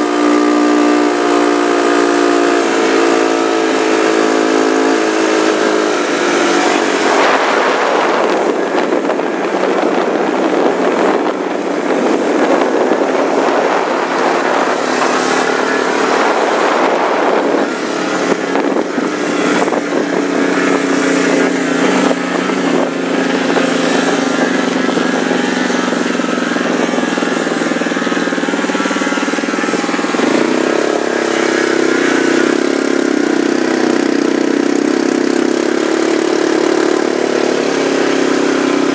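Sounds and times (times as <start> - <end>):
heavy rushing noise: 0.0 - 38.9
snowmobile engine running hard: 0.0 - 38.9.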